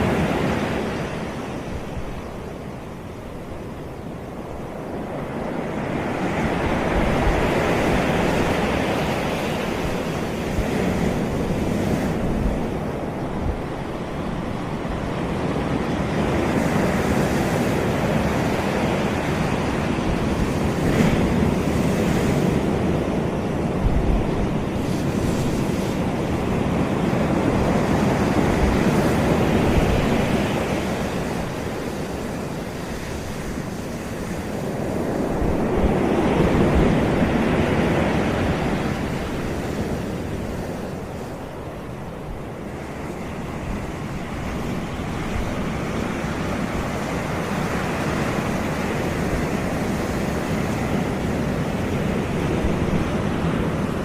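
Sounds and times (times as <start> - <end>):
waves breaking on beach: 0.0 - 54.0
wind on microphone: 0.0 - 54.0.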